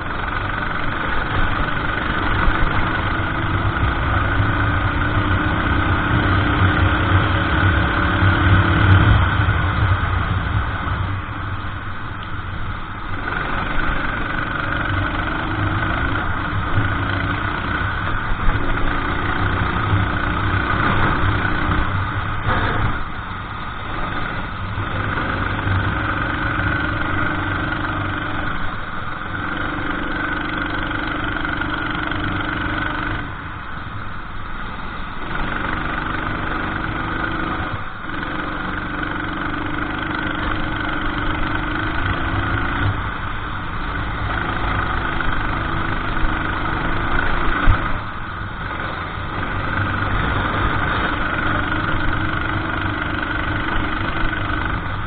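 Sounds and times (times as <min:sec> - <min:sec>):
racing kart engine revving: 0:00.0 - 0:11.2, 0:13.0 - 0:33.9, 0:34.7 - 0:55.0.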